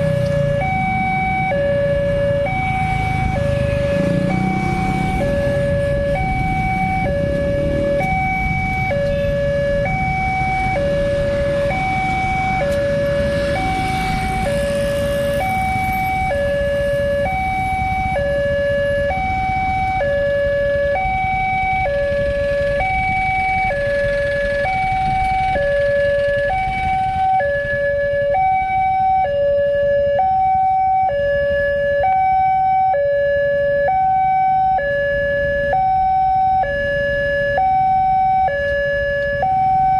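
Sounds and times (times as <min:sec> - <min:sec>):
level crossing two-tone alarm: 0:00.4 - 0:39.9.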